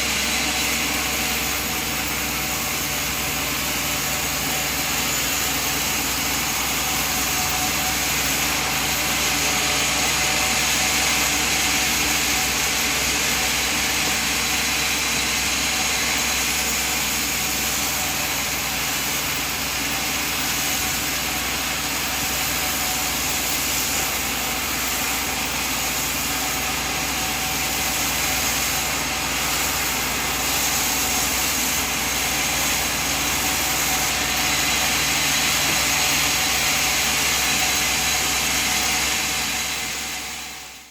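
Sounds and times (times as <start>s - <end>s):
sawmill machine humming: 0.0s - 40.9s.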